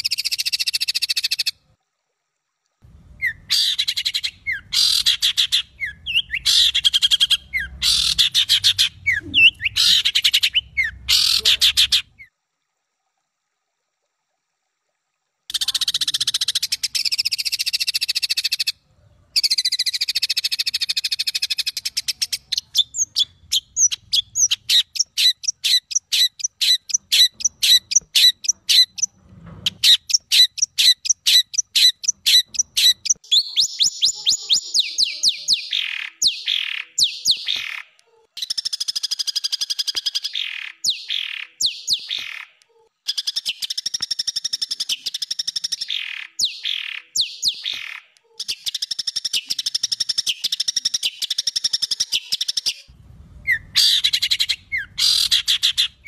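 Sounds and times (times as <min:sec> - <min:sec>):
harsh rapid bird calls: 0:03.2 - 0:12.3, 0:19.4 - 0:56.0.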